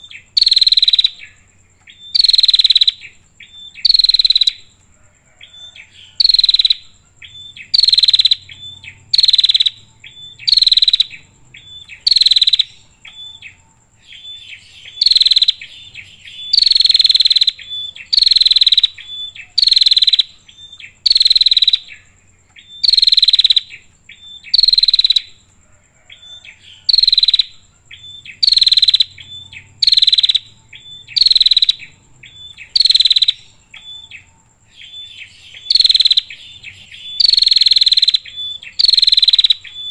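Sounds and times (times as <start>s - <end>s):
bird buzzy calls: 5.5s - 25.4s, 26.0s - 39.9s.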